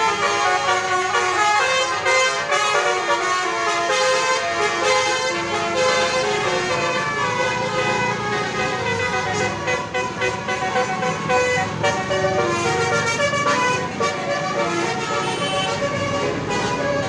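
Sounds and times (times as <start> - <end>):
multi-tone musical bus horn: 0.0 - 17.0.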